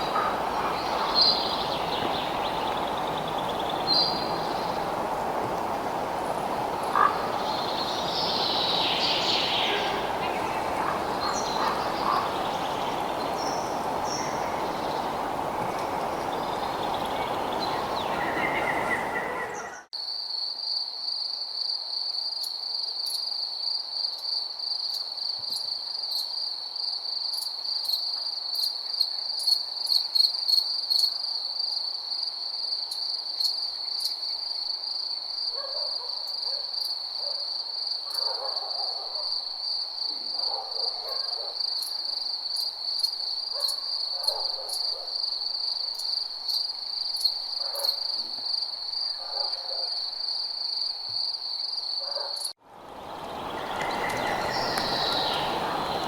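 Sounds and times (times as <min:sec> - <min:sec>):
crickets trilling: 0:00.0 - 0:56.0
noisy outdoor ambience: 0:00.0 - 0:56.0.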